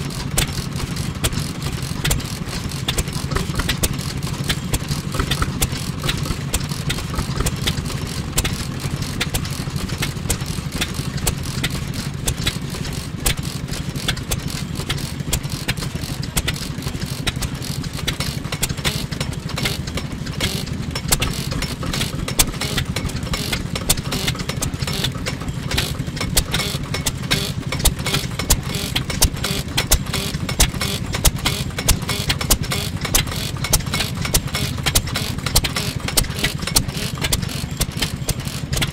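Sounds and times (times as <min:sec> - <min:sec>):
sharp clicks of valve gear: 0:00.0 - 0:38.9
stationary engine running: 0:00.0 - 0:38.9.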